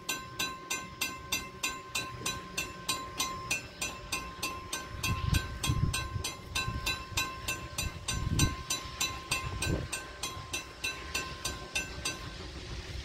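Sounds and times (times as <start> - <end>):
railroad crossing bell ringing: 0.0 - 12.6.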